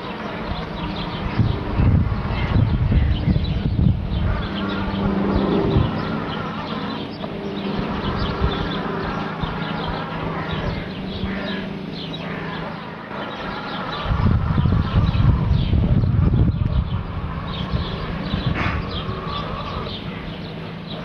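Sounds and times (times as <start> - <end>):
robotic lawn mower humming: 0.0 - 21.0.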